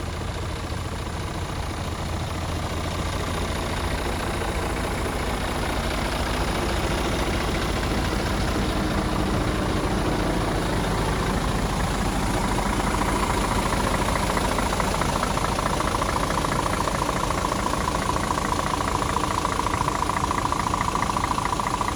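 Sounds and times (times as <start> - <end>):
diesel truck engine idling: 0.0 - 21.9.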